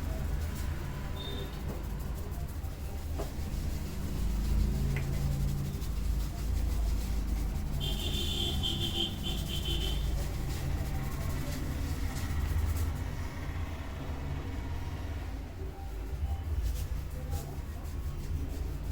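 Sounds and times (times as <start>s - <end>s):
background traffic rumble: 0.0s - 18.9s.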